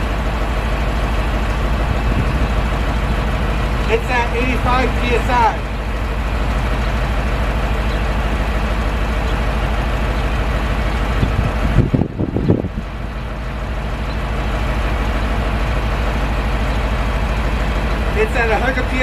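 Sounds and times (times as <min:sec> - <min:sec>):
low rumble: 0:00.0 - 0:19.0
truck engine running: 0:00.0 - 0:19.0.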